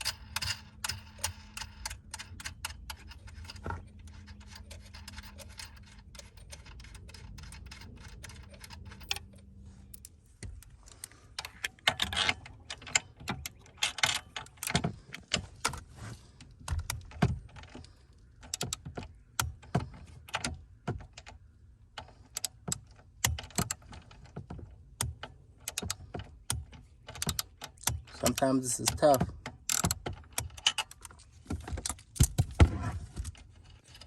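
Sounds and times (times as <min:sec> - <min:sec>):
clicking and clattering of parts: 0:00.0 - 0:34.0.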